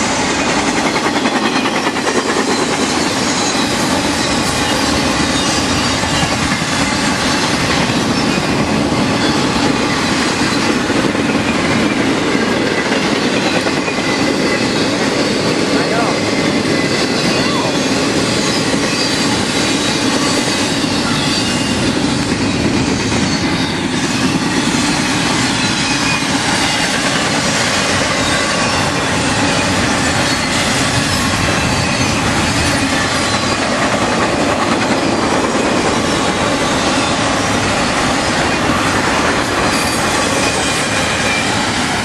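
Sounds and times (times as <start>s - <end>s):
train wheels rumbling on rail: 0.0s - 42.0s
faint high wheel squeal: 0.9s - 10.8s, 11.4s - 33.7s, 39.6s - 41.8s.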